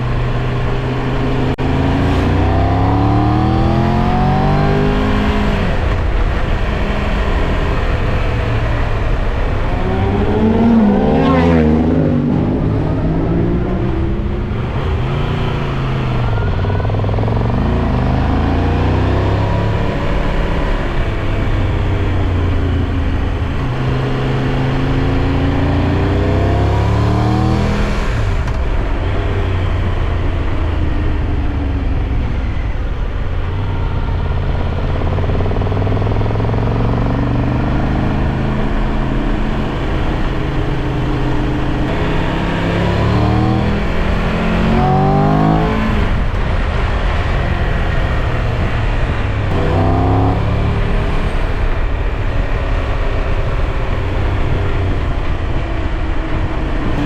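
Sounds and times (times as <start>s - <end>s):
motorcycle engine accelerating: 0.0s - 57.0s
road and wind noise: 0.0s - 57.0s.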